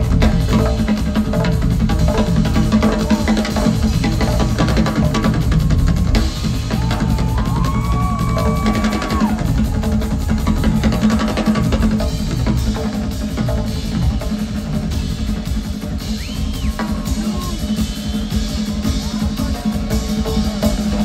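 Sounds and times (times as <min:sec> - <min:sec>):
drum kits and congas playing: 0:00.0 - 0:21.0.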